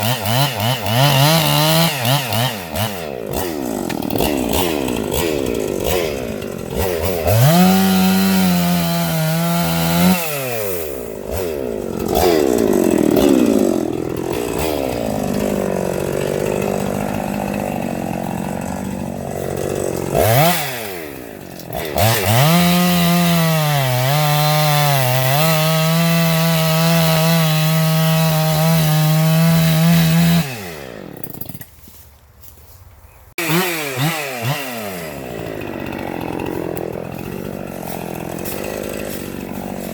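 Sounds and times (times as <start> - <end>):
chainsaw revving: 0.0 - 32.0, 33.3 - 39.9.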